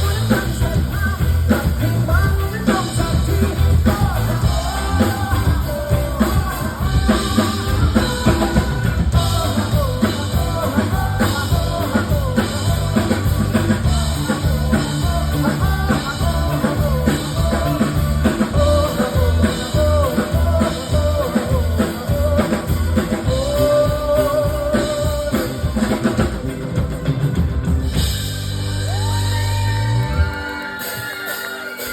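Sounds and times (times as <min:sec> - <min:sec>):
person singing: 0:00.0 - 0:27.5, 0:28.8 - 0:31.9
drum kit beat: 0:00.0 - 0:31.9
rock band music: 0:00.0 - 0:31.9.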